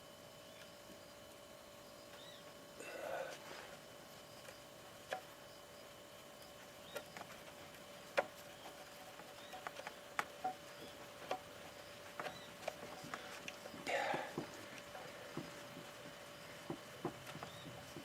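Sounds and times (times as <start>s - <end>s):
faint high-pitched hum: 0.0s - 18.0s.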